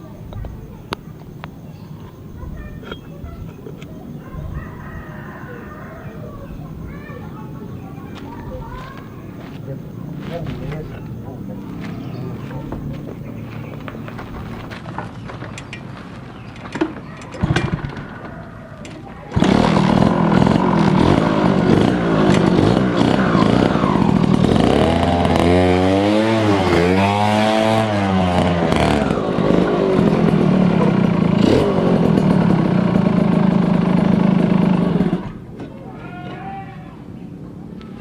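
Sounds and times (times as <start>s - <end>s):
two-stroke motorcycle engine revving: 0.0s - 14.7s, 19.3s - 35.5s.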